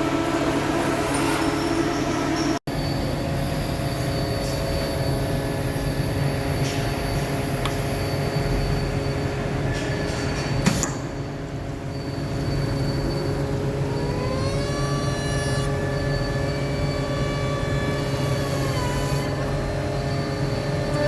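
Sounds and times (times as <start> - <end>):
machine whine: 0.0 - 10.6, 11.2 - 21.0
factory machinery humming: 0.0 - 21.0.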